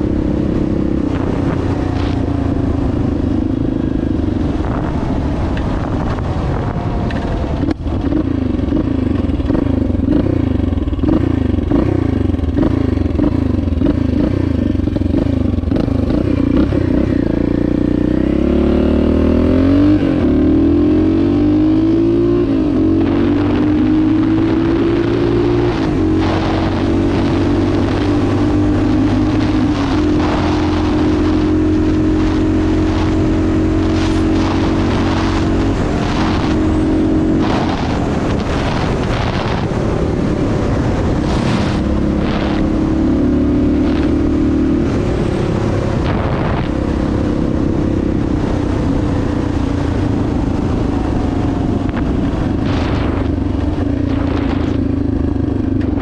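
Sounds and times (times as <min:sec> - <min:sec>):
motorcycle engine accelerating: 0:00.0 - 0:56.0
wind buffeting microphone: 0:00.0 - 0:56.0.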